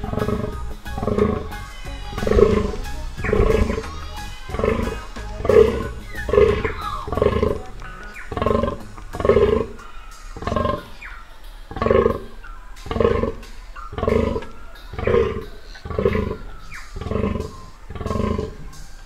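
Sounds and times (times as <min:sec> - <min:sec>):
deer groaning: 0:00.0 - 0:18.8.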